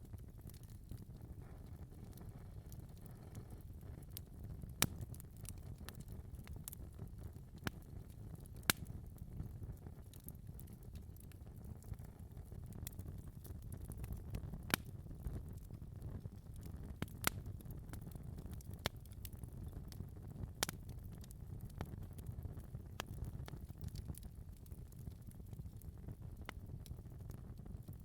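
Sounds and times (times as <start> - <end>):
fire popping and snapping: 0.0 - 28.0
fire rumbling: 0.0 - 28.0.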